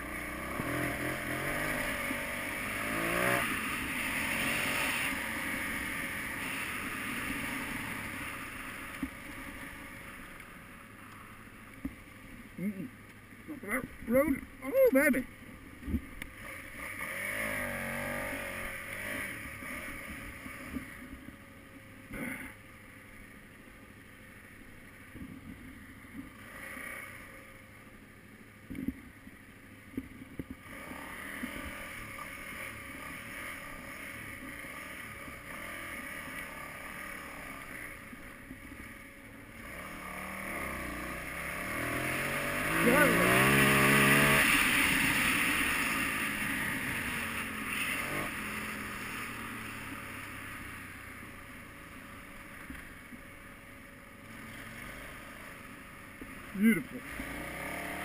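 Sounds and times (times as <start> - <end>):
motorcycle engine revving: 0.0 - 11.4, 15.9 - 21.3, 25.1 - 27.8, 29.9 - 58.0.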